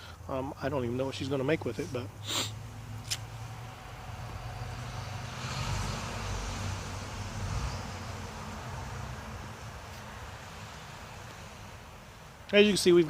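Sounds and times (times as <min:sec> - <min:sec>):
car passing: 0:00.8 - 0:13.0.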